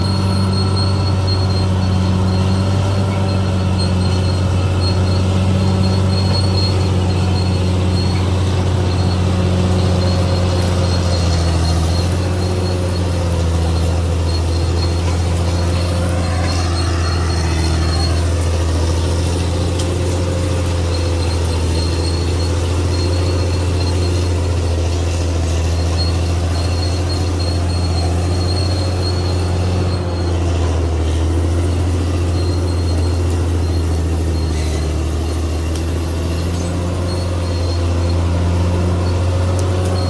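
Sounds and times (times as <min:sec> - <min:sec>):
bulldozer diesel engine running: 0:00.0 - 0:40.0
high thin squeal: 0:00.0 - 0:40.0.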